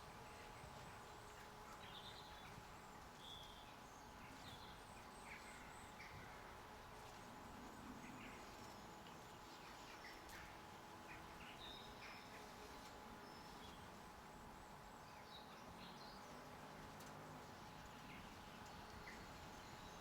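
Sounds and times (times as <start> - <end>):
faint steady hum: 0.0 - 20.0
small birds chirping: 0.0 - 20.0.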